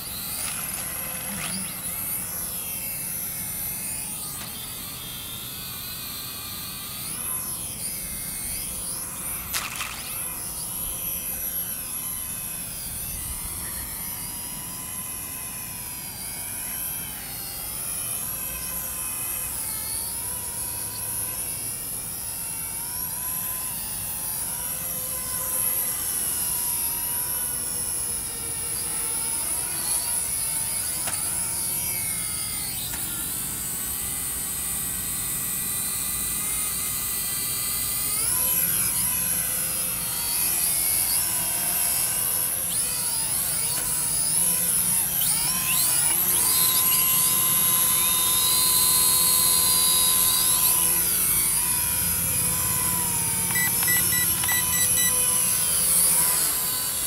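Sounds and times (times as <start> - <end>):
toy drone buzzing whine: 0.0 - 57.0.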